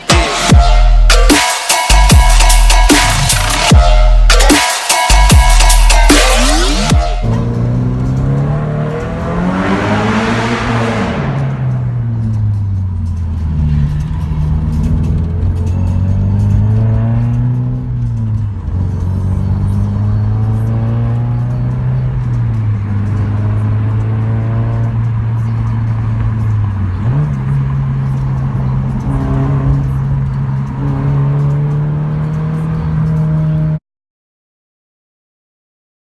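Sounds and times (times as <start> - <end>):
car engine revving: 4.4 - 33.8.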